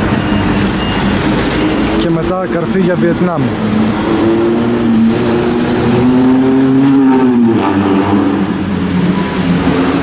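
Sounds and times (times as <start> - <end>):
scooter engines accelerating: 0.0 - 10.0
traffic noise: 0.0 - 10.0.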